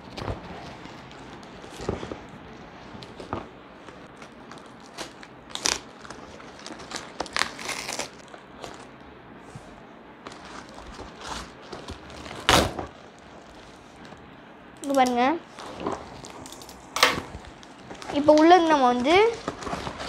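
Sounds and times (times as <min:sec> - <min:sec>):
packaging rustling and crinkling: 0:00.0 - 0:09.0, 0:09.6 - 0:14.3, 0:14.9 - 0:20.0.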